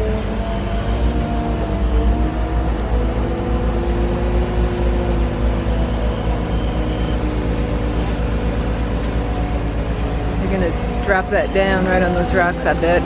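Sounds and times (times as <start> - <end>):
heavy equipment engine rumbling: 0.0 - 13.0.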